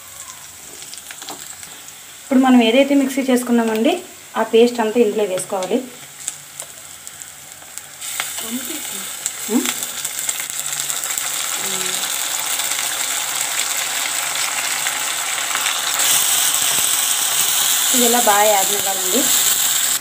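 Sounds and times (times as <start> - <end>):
oil sizzling in a frying pan: 0.0 - 20.0.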